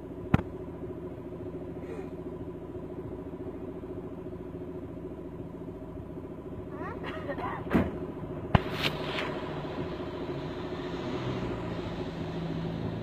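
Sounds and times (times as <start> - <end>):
road rumble: 0.0 - 13.0
vehicle engine running: 0.0 - 13.0.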